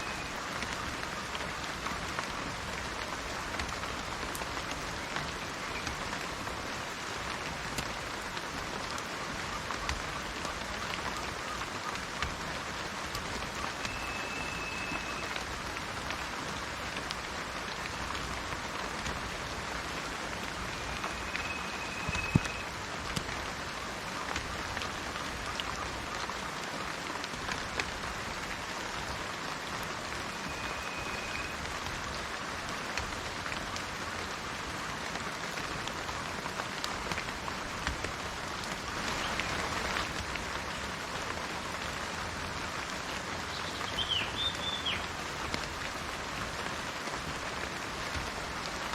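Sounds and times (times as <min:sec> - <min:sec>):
rain falling on leaves: 0:00.0 - 0:48.9.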